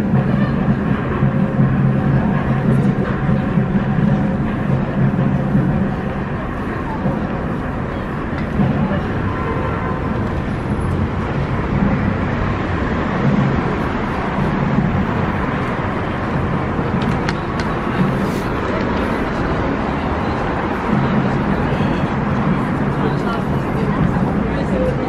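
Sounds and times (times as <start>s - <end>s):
passing cars: 0.0s - 25.0s.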